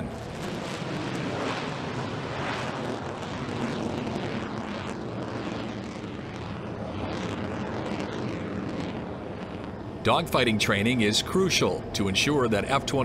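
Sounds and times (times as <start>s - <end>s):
jet fighter roaring overhead: 0.0s - 13.0s.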